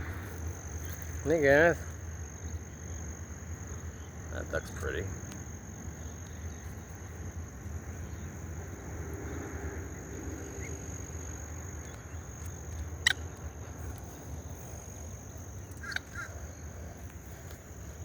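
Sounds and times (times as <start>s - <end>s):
high insect drone: 0.0s - 18.0s
low rumble of wind: 0.0s - 18.0s.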